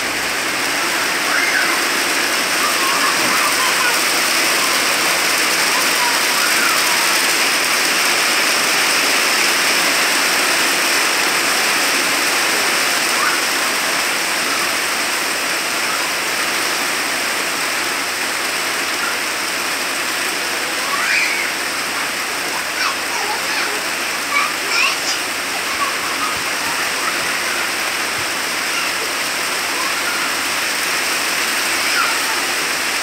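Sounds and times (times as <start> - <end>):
faint voices: 0.0 - 33.0
heavy rain: 0.0 - 33.0.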